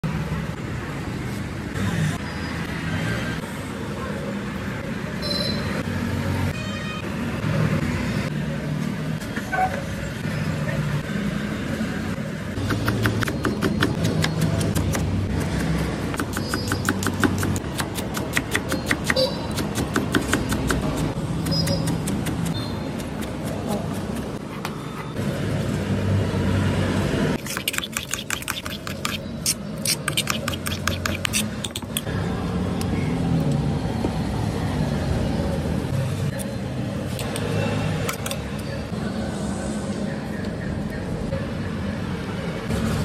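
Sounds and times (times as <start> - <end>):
low street noise rumble: 0.0 - 27.6, 28.3 - 43.0.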